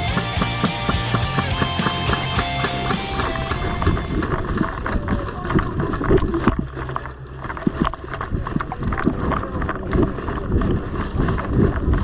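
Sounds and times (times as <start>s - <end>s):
gear rattling: 0.0s - 12.0s
running footsteps on rough ground: 0.0s - 12.0s.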